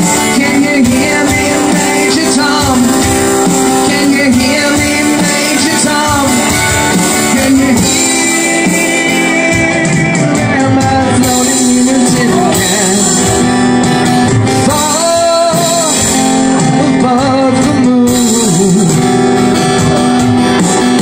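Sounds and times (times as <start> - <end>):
man singing into a microphone: 0.0 - 19.8
acoustic guitar strumming: 0.0 - 21.0
electronic drum kit: 0.0 - 21.0.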